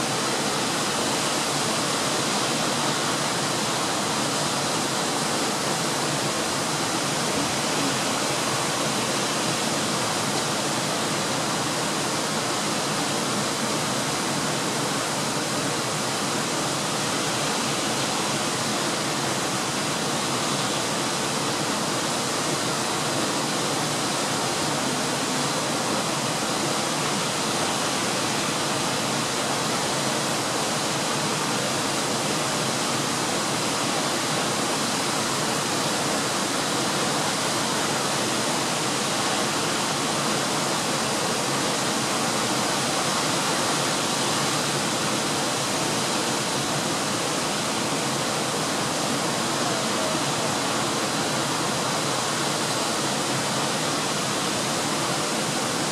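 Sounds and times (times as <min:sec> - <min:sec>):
waterfall rushing over rocks: 0:00.0 - 0:55.9.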